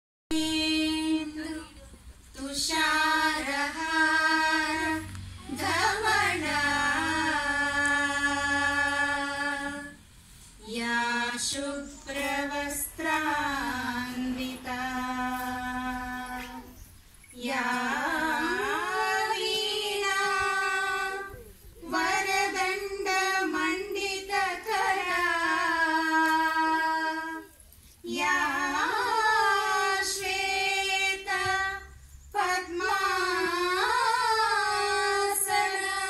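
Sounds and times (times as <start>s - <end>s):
women singing unaccompanied: 0.3s - 36.0s.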